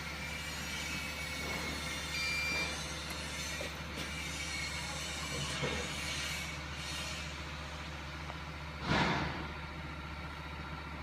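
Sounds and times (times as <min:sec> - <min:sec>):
mechanical hum: 0:00.0 - 0:09.8.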